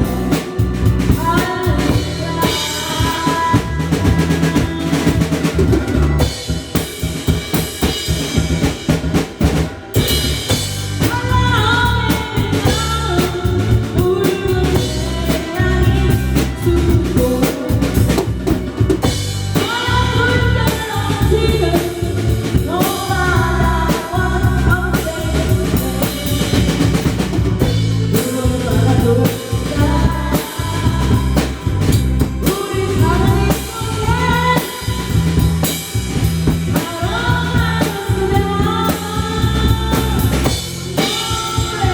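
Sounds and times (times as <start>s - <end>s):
person singing: 0.0s - 6.4s, 10.6s - 41.9s
drum kit playing a beat: 0.0s - 41.9s.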